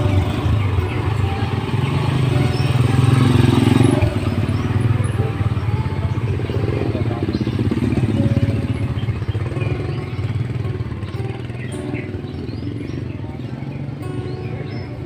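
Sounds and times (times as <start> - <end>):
small engine running: 0.0 - 13.7.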